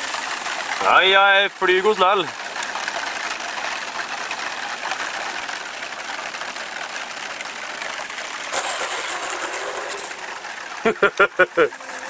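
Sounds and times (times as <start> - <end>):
model airplane engine: 0.0 - 12.0.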